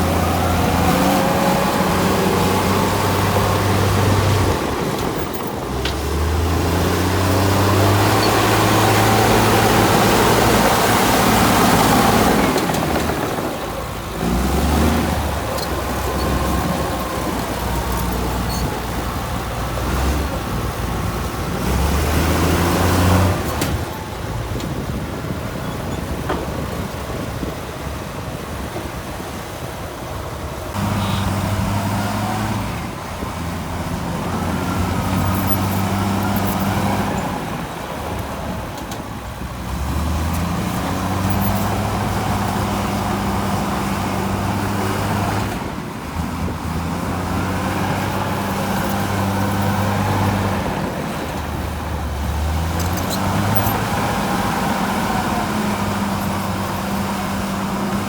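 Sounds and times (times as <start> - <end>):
diesel construction machinery running: 0.0 - 58.0.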